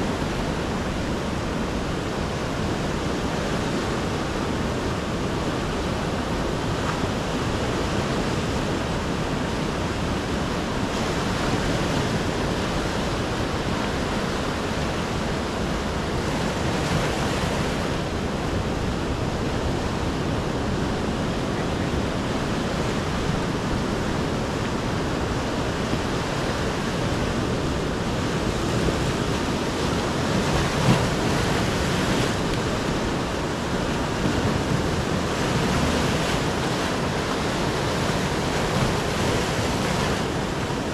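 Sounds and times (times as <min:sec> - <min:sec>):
surf breaking on rocky shore: 0:00.0 - 0:40.9.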